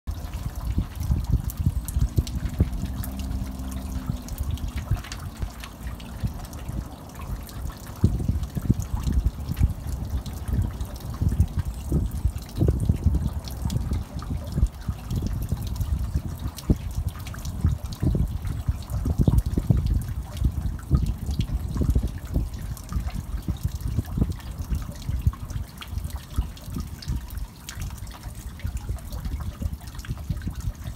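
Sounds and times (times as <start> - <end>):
water trickling into stone basin: 0.1 - 30.9.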